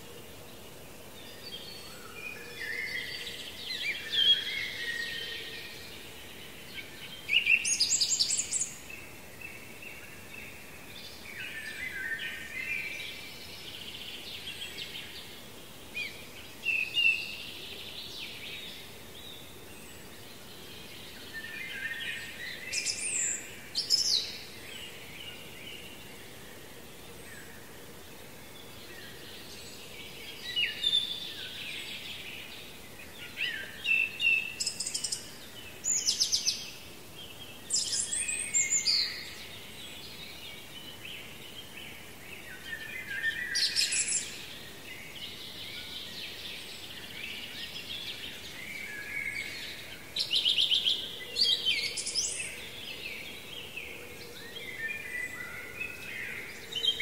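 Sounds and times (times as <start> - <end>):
faint background hiss: 0.0 - 57.0
songbirds singing: 0.0 - 57.0.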